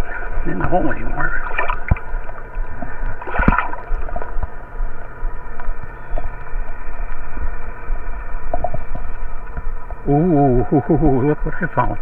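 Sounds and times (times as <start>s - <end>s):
muffled water sloshing and gurgling: 0.0s - 12.0s
steady hum: 0.0s - 12.0s.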